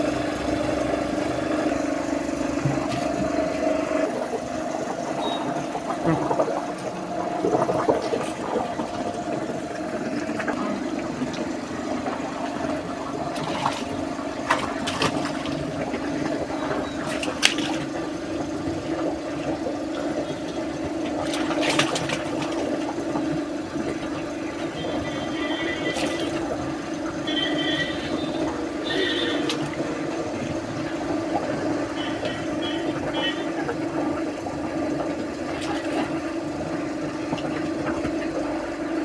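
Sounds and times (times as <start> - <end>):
steady low hum: 0.0 - 39.0
water rushing and splashing: 0.0 - 39.0.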